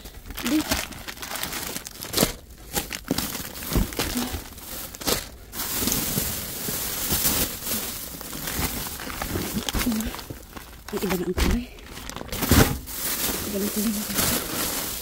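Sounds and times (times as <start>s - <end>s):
plastic bags crinkling and rustling: 0.0s - 15.0s.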